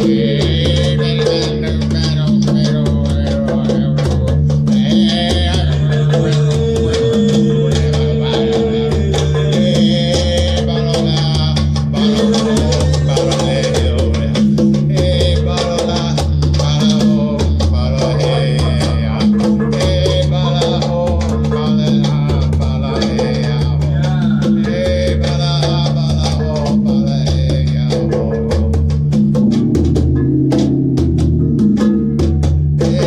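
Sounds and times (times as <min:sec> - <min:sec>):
repeating bass line: 0:00.0 - 0:23.0, 0:27.8 - 0:33.0
drums and percussion beat: 0:00.0 - 0:33.0.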